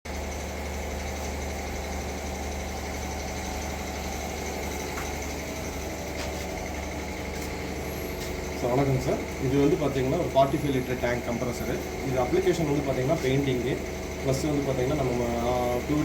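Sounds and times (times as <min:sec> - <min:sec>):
air compressor running: 0:00.1 - 0:16.0.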